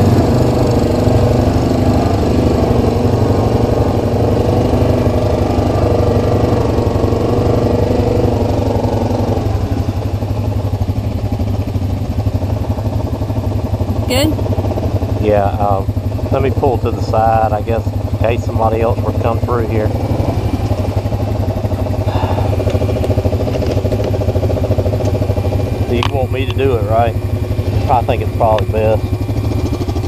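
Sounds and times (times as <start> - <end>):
atv engine idling: 0.0 - 30.0
second engine: 0.0 - 30.0.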